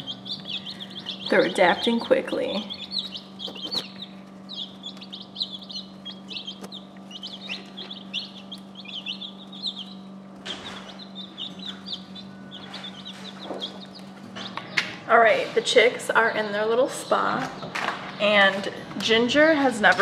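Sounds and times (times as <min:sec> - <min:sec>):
low hum: 0:00.0 - 0:19.2
baby chicks peeping: 0:00.0 - 0:20.0.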